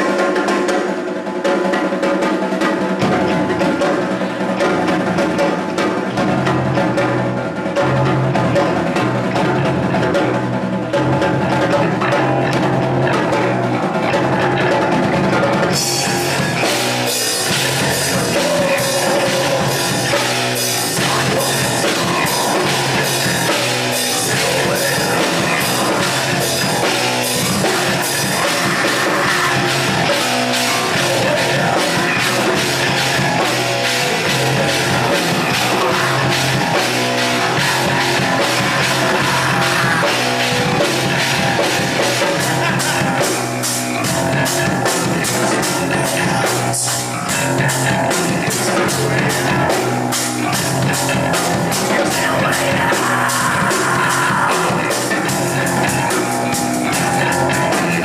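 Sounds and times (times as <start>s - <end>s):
drum kit: 0.0s - 58.0s
rock band playing live: 0.0s - 58.0s.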